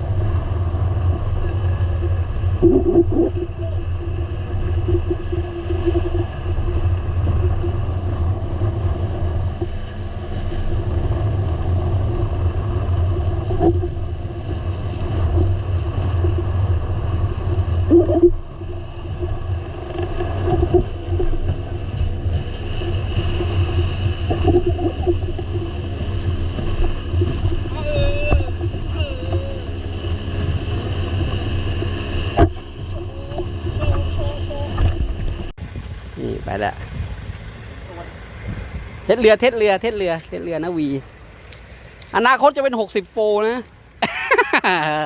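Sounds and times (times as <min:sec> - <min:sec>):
boat engine drone: 0:00.0 - 0:45.0
water noise: 0:00.0 - 0:45.0
wind: 0:00.0 - 0:45.0.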